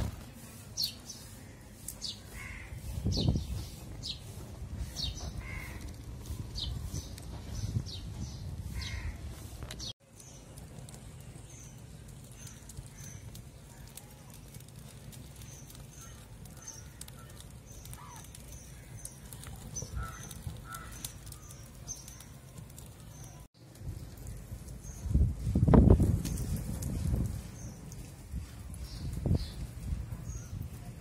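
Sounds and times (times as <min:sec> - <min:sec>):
birds chirping: 0:00.0 - 0:23.5, 0:27.3 - 0:31.0
fire burning and crackling: 0:00.0 - 0:31.0.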